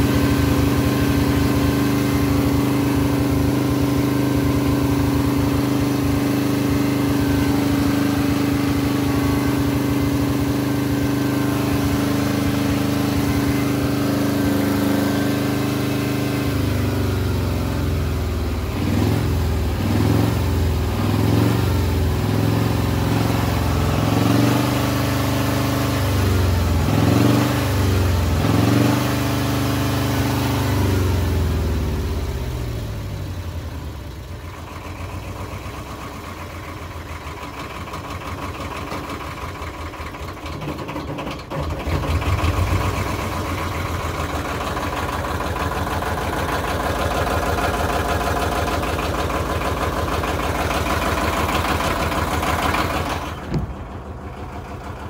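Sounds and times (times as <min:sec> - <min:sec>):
diesel generator engine running: 0:00.0 - 0:55.0.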